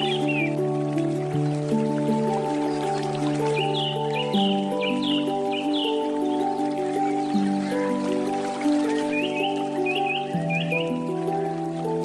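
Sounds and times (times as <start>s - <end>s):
bird chirp: 0.0s - 0.6s, 2.5s - 11.7s
handpan music: 0.0s - 12.0s
river flowing: 0.0s - 12.0s.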